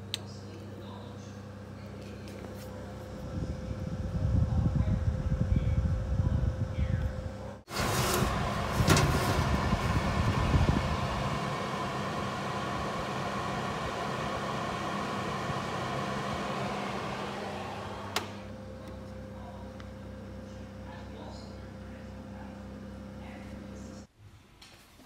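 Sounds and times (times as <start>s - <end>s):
oven fan whirring: 0.0s - 24.1s.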